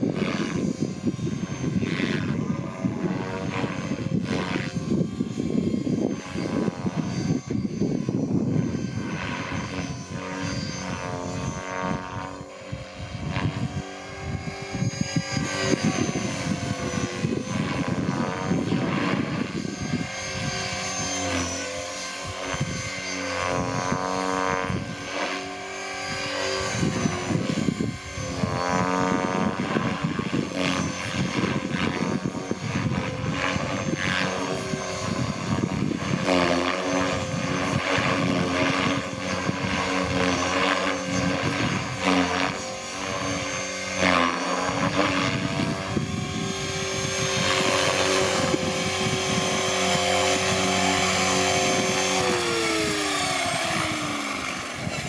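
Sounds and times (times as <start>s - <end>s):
rc helicopter rotor whirring: 0.0s - 55.0s.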